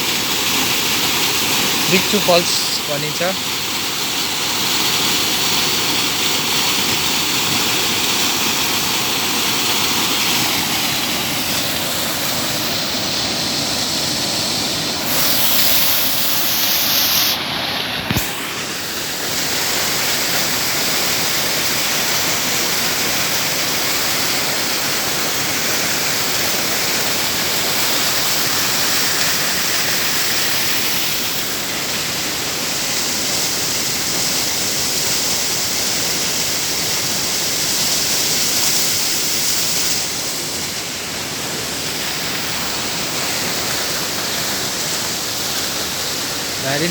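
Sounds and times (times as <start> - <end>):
waterfall roaring: 0.0 - 46.9.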